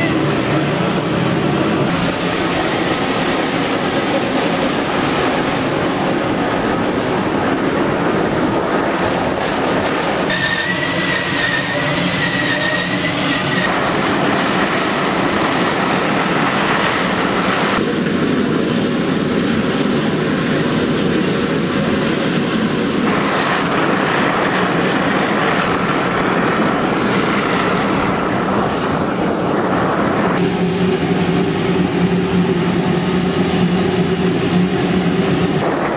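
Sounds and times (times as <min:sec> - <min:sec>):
steam locomotive running: 0:00.0 - 0:35.9.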